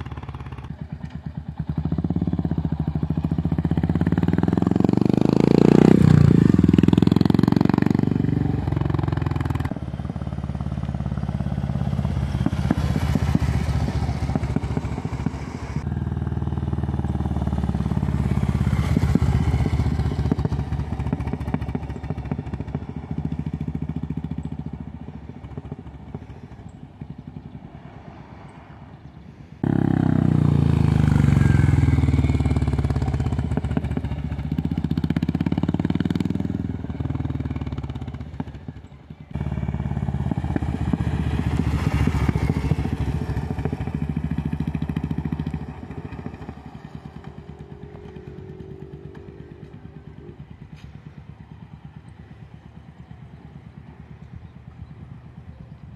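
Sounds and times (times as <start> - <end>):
motorcycle passing: 0.0 - 55.9.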